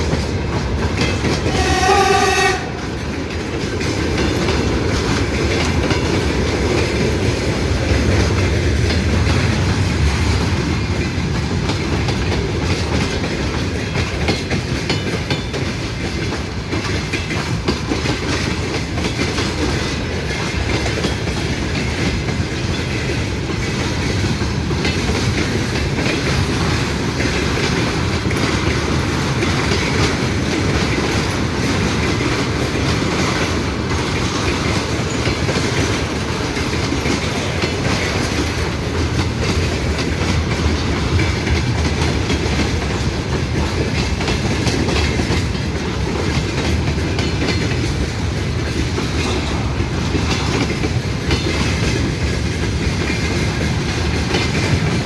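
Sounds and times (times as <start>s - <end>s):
train wheels clattering over rail joints: 0.0s - 55.0s.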